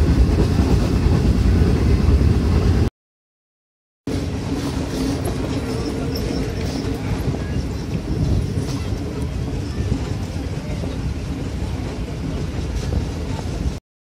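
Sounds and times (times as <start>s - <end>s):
train rumbling: 0.0s - 2.9s, 4.1s - 13.8s.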